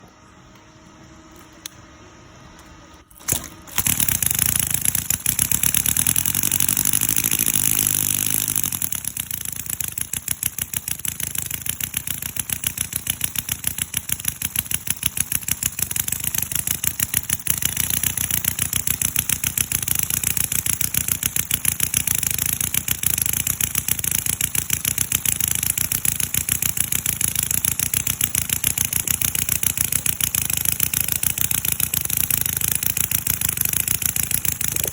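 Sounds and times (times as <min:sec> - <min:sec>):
model engine running: 0:03.2 - 0:34.9.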